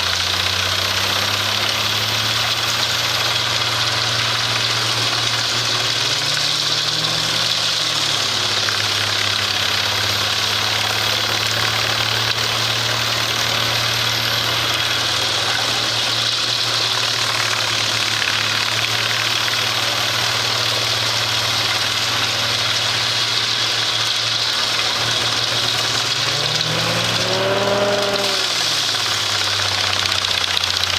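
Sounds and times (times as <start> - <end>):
wood chipping machine engine: 0.0 - 30.9.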